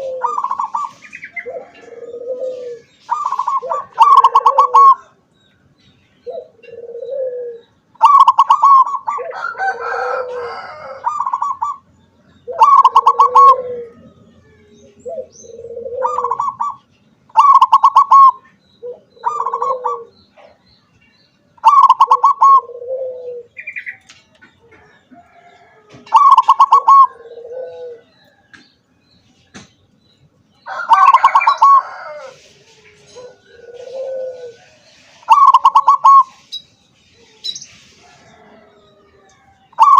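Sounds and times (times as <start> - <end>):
dove cooing: 0.0 - 5.3, 6.2 - 20.6, 21.6 - 28.5, 30.6 - 36.6, 37.2 - 39.9.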